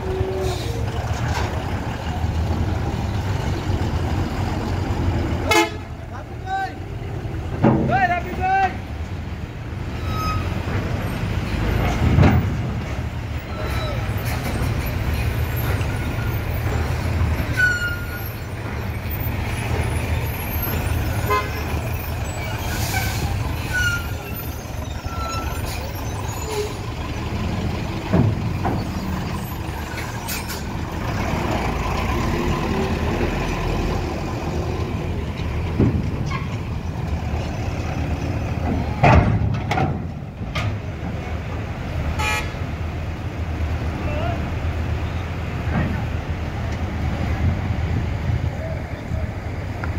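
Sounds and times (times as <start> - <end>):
vehicle engines running low: 0.0 - 49.9.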